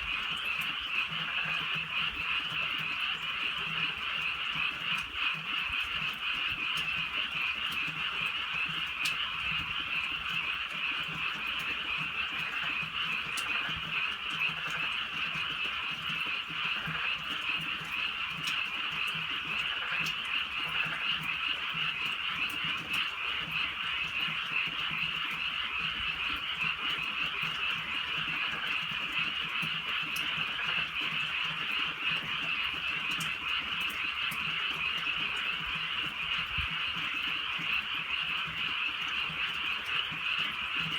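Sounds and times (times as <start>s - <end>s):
chorus of frogs calling: 0.0s - 40.9s
light drizzle ticking: 0.0s - 40.9s.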